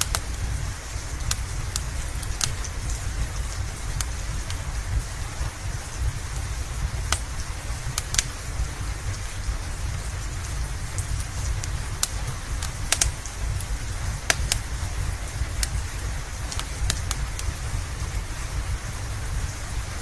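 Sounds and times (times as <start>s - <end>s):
low rumble: 0.0s - 20.0s
steady rain: 0.0s - 20.0s
wood fire crackling: 0.0s - 20.0s.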